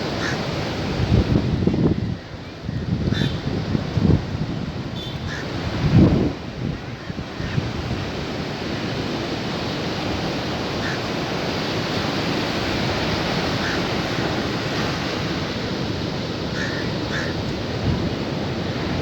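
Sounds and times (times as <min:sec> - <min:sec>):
sea waves washing ashore: 0:00.0 - 0:19.0.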